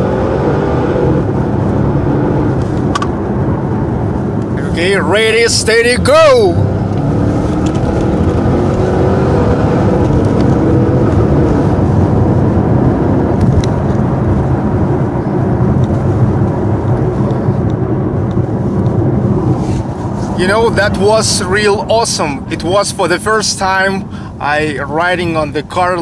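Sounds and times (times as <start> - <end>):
car engine accelerating hard: 0.0 - 22.6
road noise: 0.0 - 26.0.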